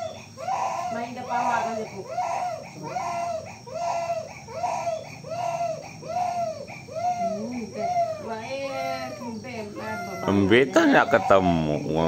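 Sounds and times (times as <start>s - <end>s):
baby crying: 0.0s - 12.0s.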